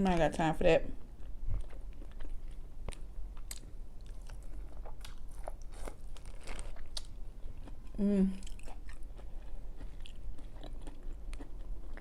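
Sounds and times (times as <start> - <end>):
person chewing and crunching: 1.0 - 12.0.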